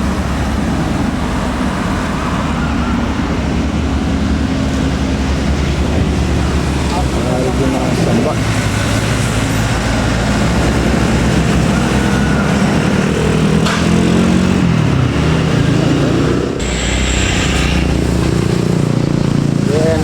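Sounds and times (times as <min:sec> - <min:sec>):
bus diesel engine under load: 0:00.0 - 0:20.0.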